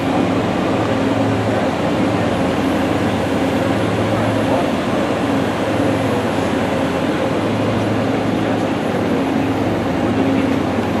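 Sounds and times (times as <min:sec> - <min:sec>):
aircraft machinery drone: 0:00.0 - 0:11.0.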